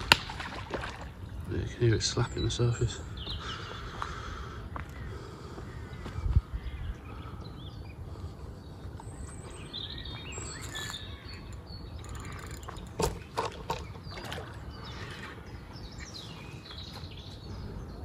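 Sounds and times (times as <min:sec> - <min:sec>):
small birds chirping: 0:01.2 - 0:18.0.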